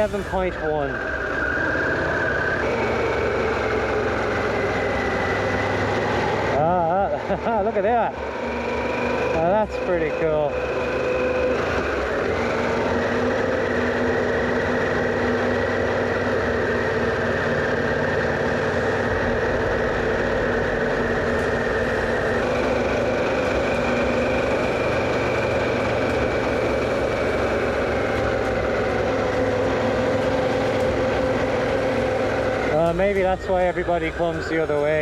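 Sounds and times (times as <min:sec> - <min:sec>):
wind and road noise: 0:00.0 - 0:06.6, 0:07.3 - 0:35.0
motorcycle engine running: 0:02.6 - 0:35.0.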